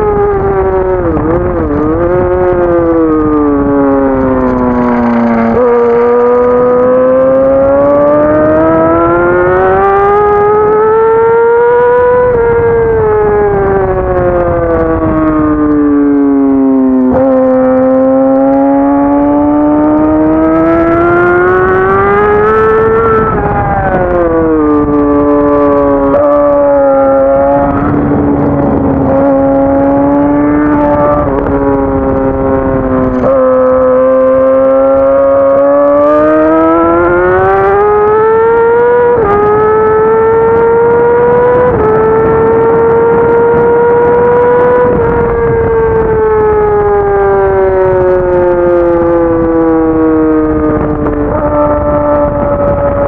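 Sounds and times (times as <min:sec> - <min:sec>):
motorcycle engine at speed: 0:00.0 - 0:53.0
wind rush: 0:00.0 - 0:53.0.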